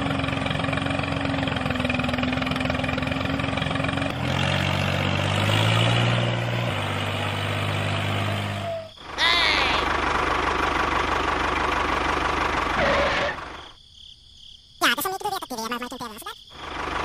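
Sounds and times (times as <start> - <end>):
tractor engine idling: 0.0 - 5.6, 6.7 - 13.7, 14.8 - 17.0.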